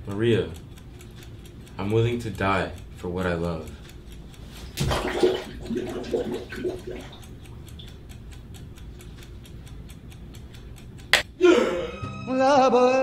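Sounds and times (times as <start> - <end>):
rapid even ticking: 0.0 - 11.4.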